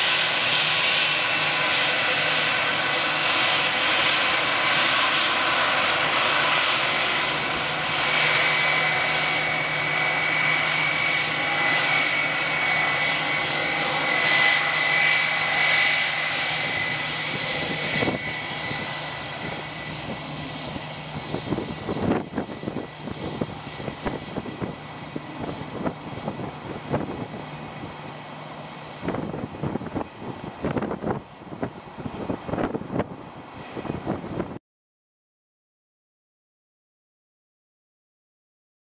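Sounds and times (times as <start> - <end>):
jet engines whining: 0.0 - 34.6
wind buffeting microphone: 0.0 - 34.6.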